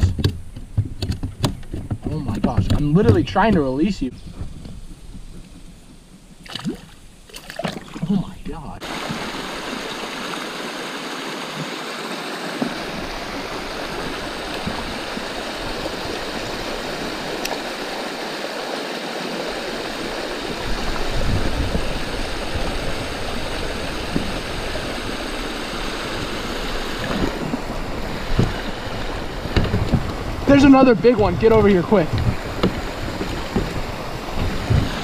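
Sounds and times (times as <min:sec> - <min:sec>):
creek water flowing: 0:01.6 - 0:35.0.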